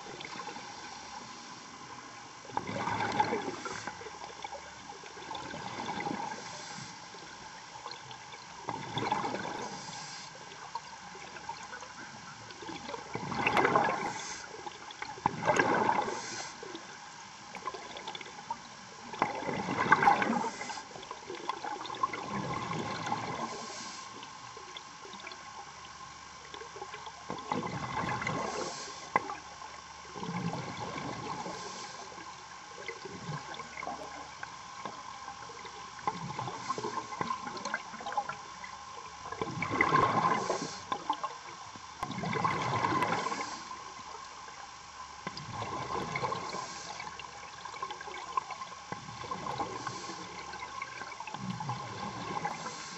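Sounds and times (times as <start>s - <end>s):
faint hum: 0.0s - 52.9s
underwater bubbles gurgling: 0.0s - 52.9s.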